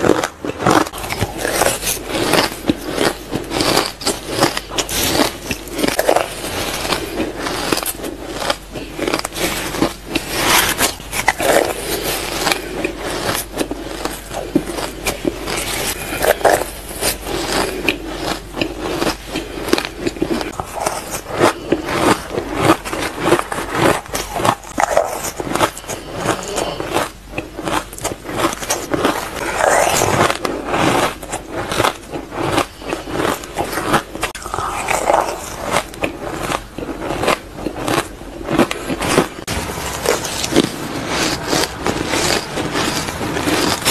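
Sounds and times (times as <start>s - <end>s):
shaved ice being crunched: 0.0s - 43.9s.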